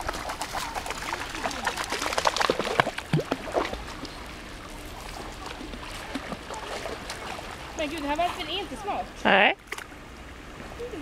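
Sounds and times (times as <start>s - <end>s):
water lapping: 0.0s - 11.0s
water sloshing and splashing: 0.0s - 11.0s.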